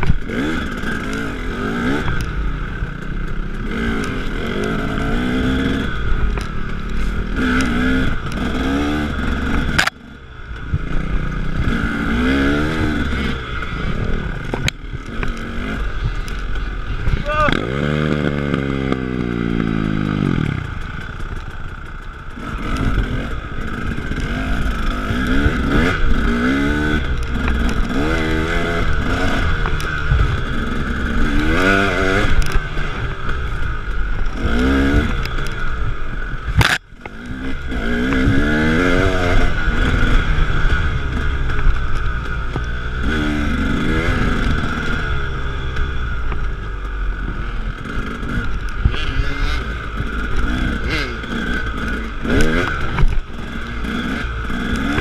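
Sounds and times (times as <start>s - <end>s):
bike rattling and scraping: 0.0s - 55.0s
dirt bike engine revving: 0.0s - 55.0s.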